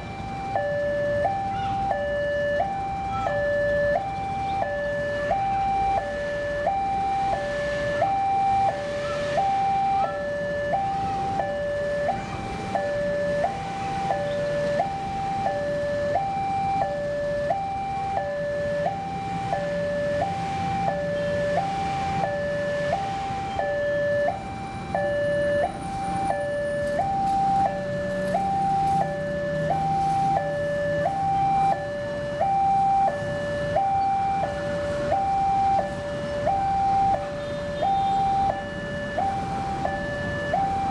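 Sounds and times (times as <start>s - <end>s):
faint road traffic rumble: 0.0s - 40.9s
level crossing two-tone alarm: 0.0s - 40.9s.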